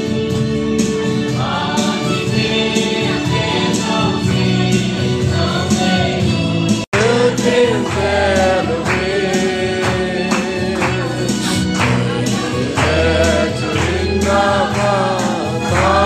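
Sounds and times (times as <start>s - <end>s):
instrumental accompaniment: 0.0s - 16.0s
group singing gospel: 0.9s - 16.0s.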